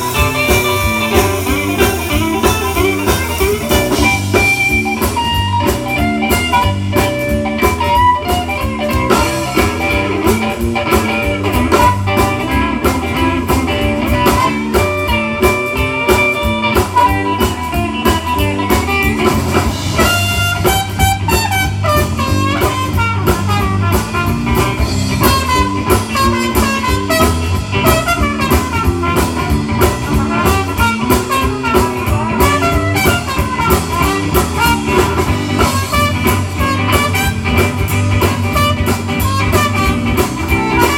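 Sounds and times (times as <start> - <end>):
swing band playing: 0.0 - 40.9.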